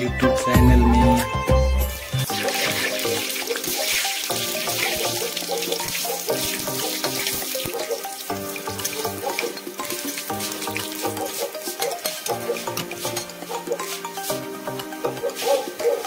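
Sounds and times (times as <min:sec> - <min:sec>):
background music with a beat: 0:00.0 - 0:16.0
chillies sizzling in hot oil: 0:02.3 - 0:15.8.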